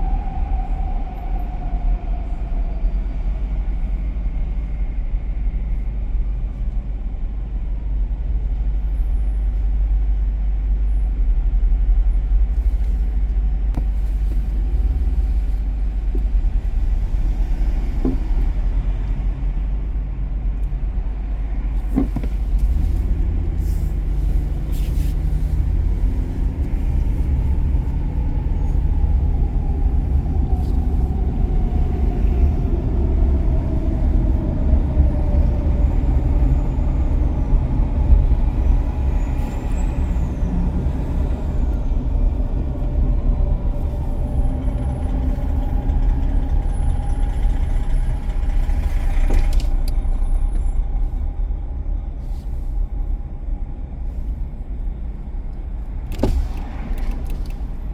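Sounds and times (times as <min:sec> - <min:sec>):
car road rumble: 0:00.0 - 0:57.9.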